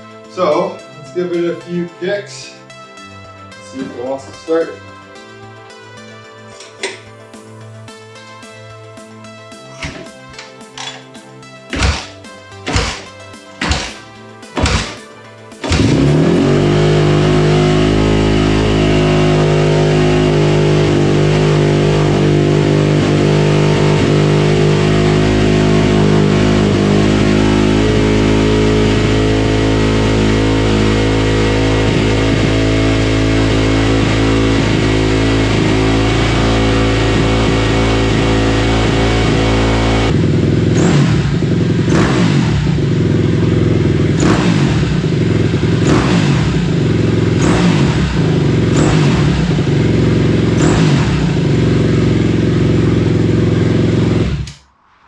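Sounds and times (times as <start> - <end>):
dirt bike engine idling and revving: 2.4 - 54.6.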